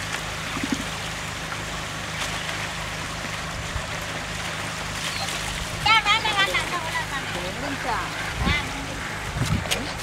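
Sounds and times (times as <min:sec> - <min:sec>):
stream water running: 0:00.0 - 0:10.0.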